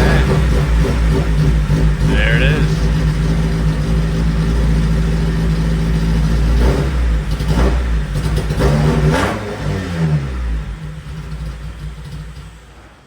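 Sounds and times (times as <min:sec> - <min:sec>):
car engine running rough: 0:00.0 - 0:12.6.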